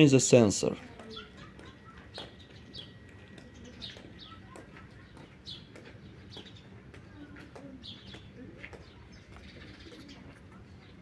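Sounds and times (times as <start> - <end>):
faint bird chirps: 0.9 - 11.0.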